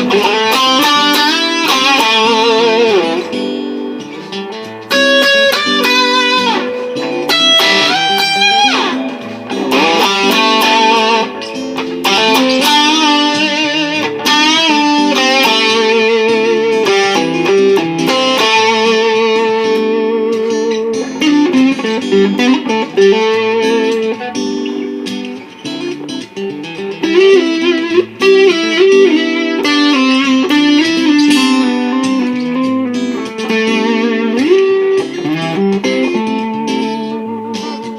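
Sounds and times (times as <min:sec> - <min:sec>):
acoustic guitar rhythm: 0:00.0 - 0:37.9
electric guitar lead solo: 0:00.0 - 0:37.9.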